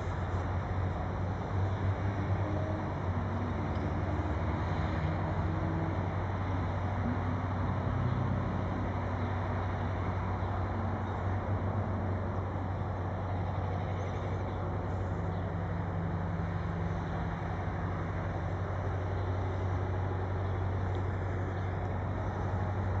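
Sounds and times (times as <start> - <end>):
diesel locomotive engine droning: 0.0 - 23.0.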